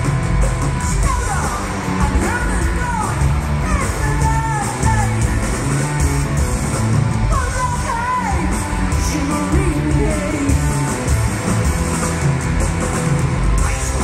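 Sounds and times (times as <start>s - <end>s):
drum kit: 0.0s - 14.0s
electric bass: 0.0s - 14.0s
electric guitar: 0.0s - 14.0s.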